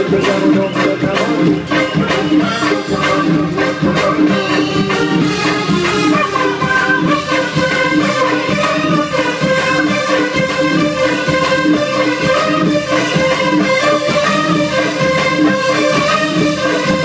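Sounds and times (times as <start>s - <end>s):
drums beating: 0.0s - 17.0s
keyboard: 0.0s - 17.0s
live band playing pop: 0.0s - 17.0s.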